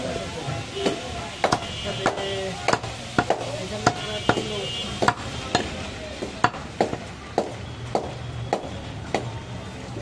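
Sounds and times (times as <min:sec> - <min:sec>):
cleaver chopping meat and bone: 0:00.8 - 0:09.4.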